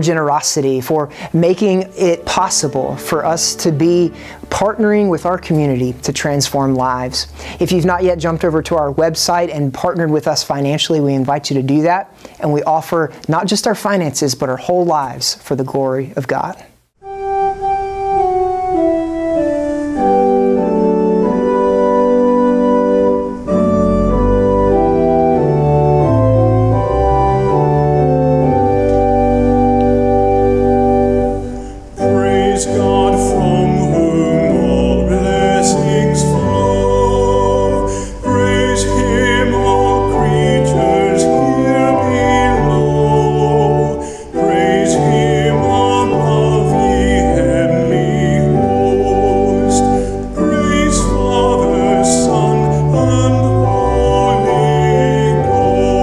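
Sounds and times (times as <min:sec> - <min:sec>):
bright wavering organ notes: 0:00.0 - 0:09.8, 0:17.0 - 0:56.0
organ chords over bass line: 0:00.0 - 0:11.0, 0:17.0 - 0:56.0.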